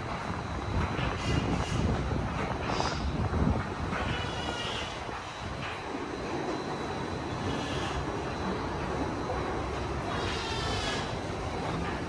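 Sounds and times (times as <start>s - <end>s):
conveyor low rumble: 0.0s - 12.0s
conveyor track clatter: 0.0s - 12.0s.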